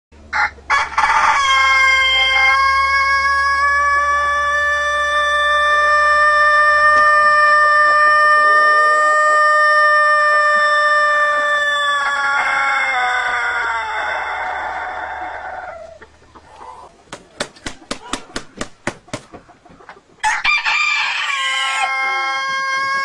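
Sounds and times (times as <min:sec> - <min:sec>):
rooster crowing: 0:00.3 - 0:16.0, 0:20.2 - 0:23.0.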